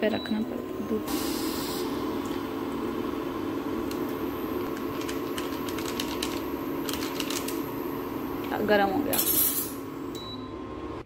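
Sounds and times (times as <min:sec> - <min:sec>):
induction cooktop humming: 0:00.0 - 0:11.0.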